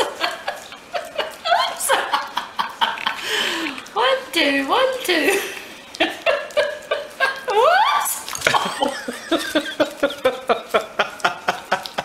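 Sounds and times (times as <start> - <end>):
puppy lapping from a saucer: 0.0 - 7.6, 8.2 - 12.0.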